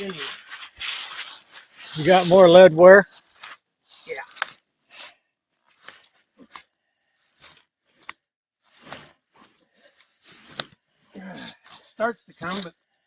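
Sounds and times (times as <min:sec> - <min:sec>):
rustling and scraping of log: 0:00.0 - 0:12.8.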